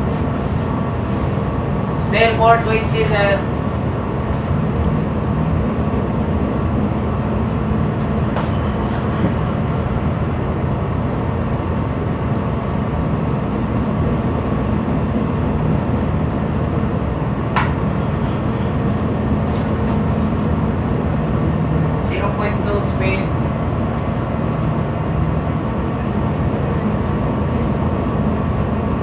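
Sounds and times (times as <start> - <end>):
ship machinery drone: 0.0 - 29.0.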